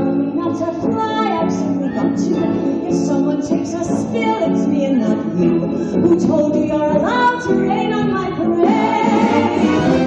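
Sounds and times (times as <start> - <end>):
instrumental accompaniment: 0.0 - 10.0
woman singing: 0.0 - 10.0.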